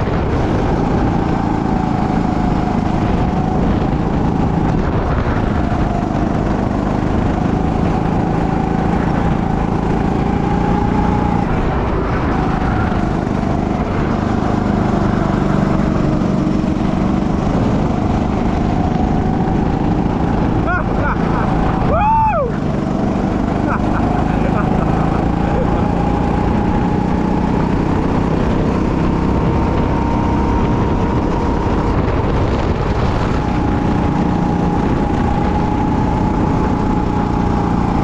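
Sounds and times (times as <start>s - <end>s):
go-kart engine revving: 0.0s - 38.0s.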